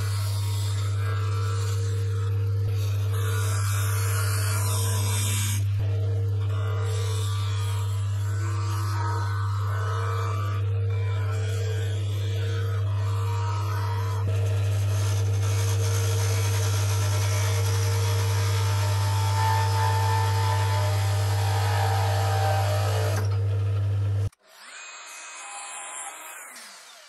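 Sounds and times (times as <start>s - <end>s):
chisel cutting spinning wood: 0.0s - 24.4s
wood lathe motor hum: 0.0s - 24.4s.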